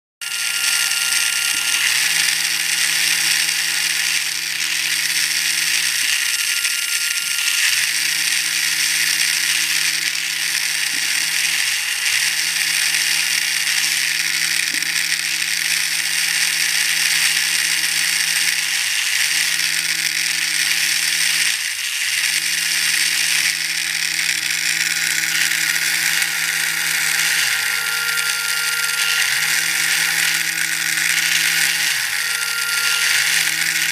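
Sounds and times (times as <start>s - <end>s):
small electric motor whirring: 0.2s - 33.9s.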